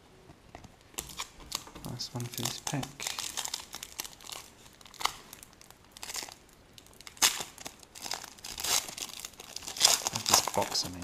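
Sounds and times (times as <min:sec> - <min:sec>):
foil wrapper crinkling and tearing: 0:00.9 - 0:11.0.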